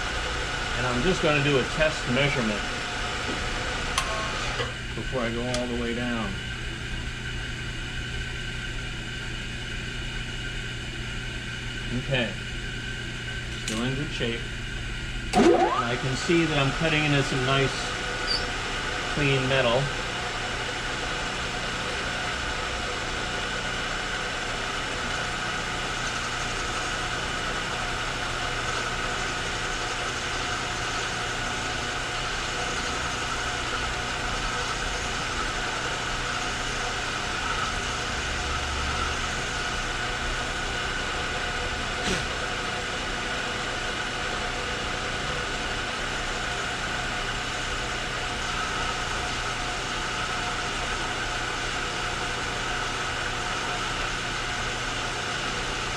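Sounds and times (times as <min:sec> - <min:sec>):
machine tool humming and whining: 0:00.0 - 0:55.9.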